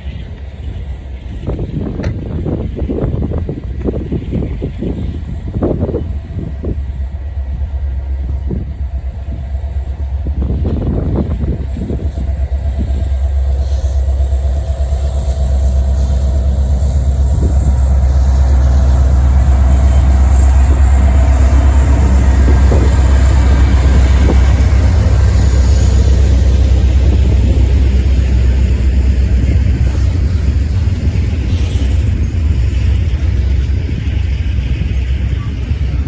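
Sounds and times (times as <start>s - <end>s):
freight train rumble: 0.0s - 36.0s
wind buffeting microphone: 0.0s - 36.0s.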